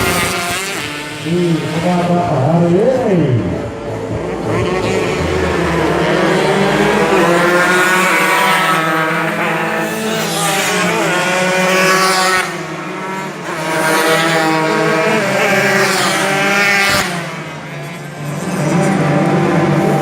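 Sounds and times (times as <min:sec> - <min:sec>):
motorcycle engines at full throttle: 0:00.0 - 0:20.0.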